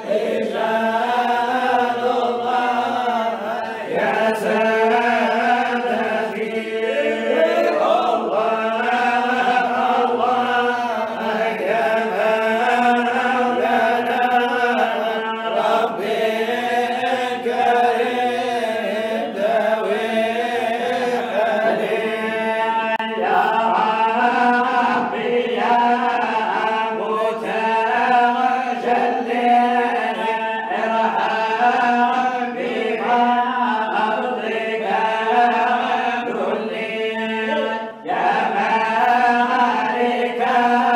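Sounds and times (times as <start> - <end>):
man chanting into a microphone: 0.0 - 40.9.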